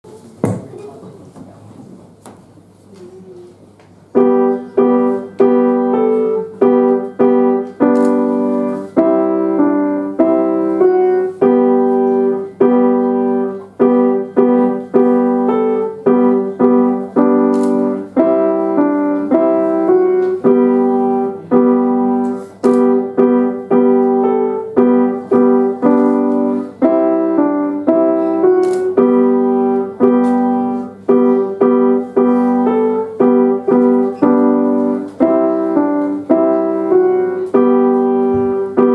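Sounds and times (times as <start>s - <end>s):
solo piano melody: 4.1s - 38.9s.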